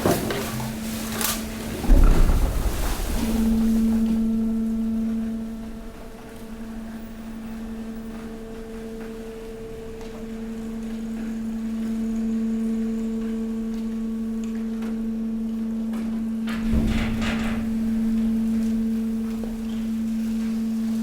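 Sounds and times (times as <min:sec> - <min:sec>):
hydraulic pump humming: 0:00.0 - 0:21.0.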